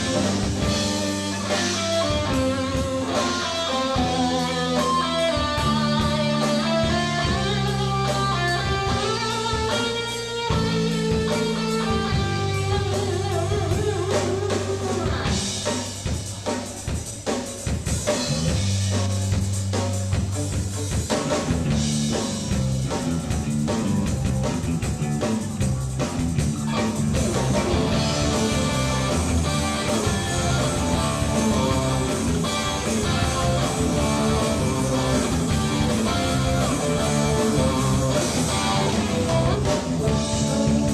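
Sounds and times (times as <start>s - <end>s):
bass line: 0.0s - 16.4s, 17.1s - 40.9s
drums: 0.0s - 40.9s
guitar: 0.0s - 40.9s.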